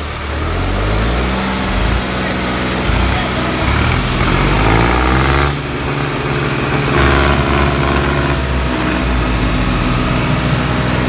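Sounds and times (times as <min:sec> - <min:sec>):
diesel tractor engines under load: 0:00.0 - 0:11.0.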